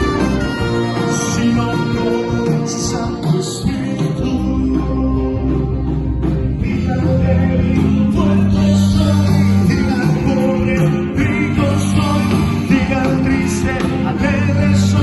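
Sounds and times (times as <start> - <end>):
live band playing: 0.0 - 15.0
person singing: 0.0 - 15.0.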